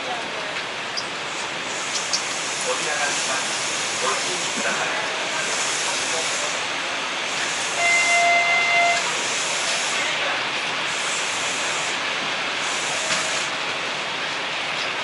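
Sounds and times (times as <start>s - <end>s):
electric train running: 0.0s - 15.0s
heavy rain: 0.0s - 15.0s.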